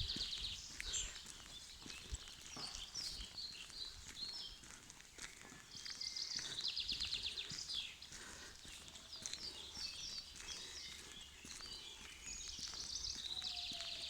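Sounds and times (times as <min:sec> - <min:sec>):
songbirds trilling and chirping: 0:00.0 - 0:14.0.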